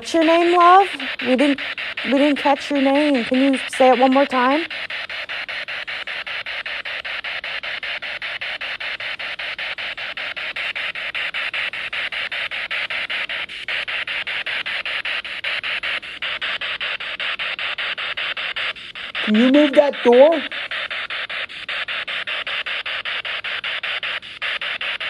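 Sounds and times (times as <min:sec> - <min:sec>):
radio static sweeping: 0:00.0 - 0:25.0.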